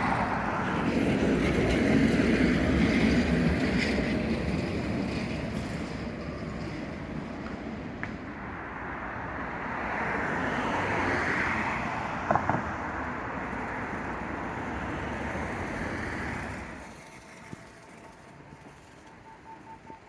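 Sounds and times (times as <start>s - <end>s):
street traffic passing: 0.0s - 20.0s.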